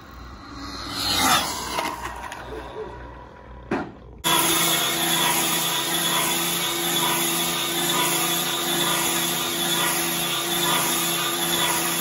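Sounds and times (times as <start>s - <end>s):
rc car motor whining: 0.0s - 3.6s, 4.3s - 12.0s.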